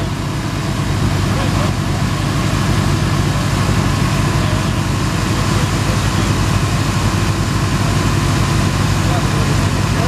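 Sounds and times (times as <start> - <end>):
boat engines droning: 0.0 - 10.0.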